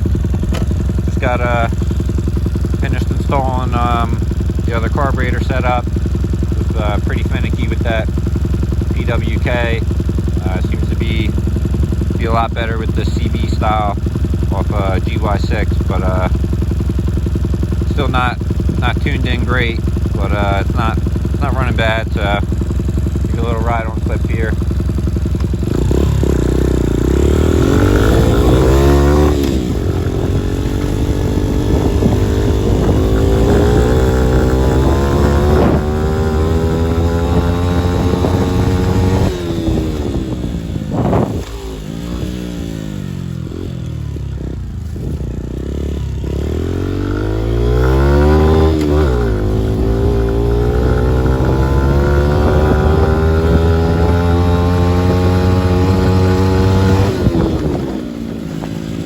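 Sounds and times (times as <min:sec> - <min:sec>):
small motorcycle engine revving: 0:00.0 - 0:59.0.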